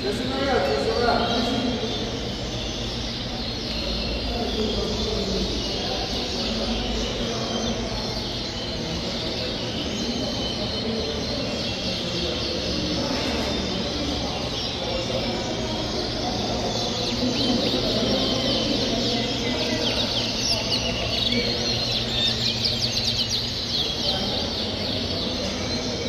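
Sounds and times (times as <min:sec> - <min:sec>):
canaries chirping and singing: 0:00.0 - 0:26.0
low background hum: 0:00.0 - 0:26.0.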